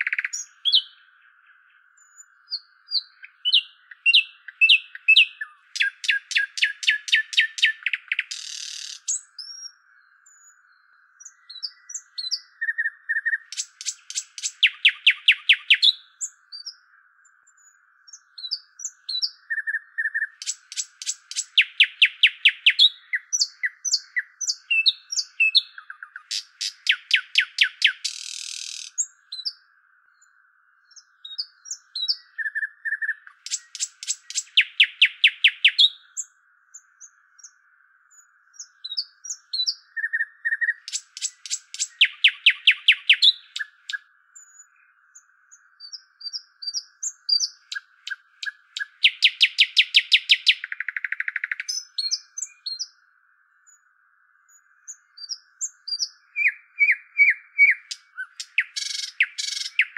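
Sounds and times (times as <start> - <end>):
songbird trilling and chirping: 0.0 - 59.9.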